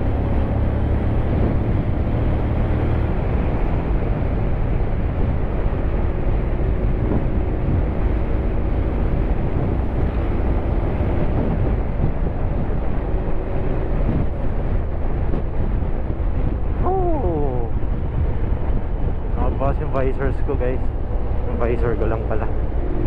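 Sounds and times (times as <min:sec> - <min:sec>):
wind and road noise: 0:00.0 - 0:23.0.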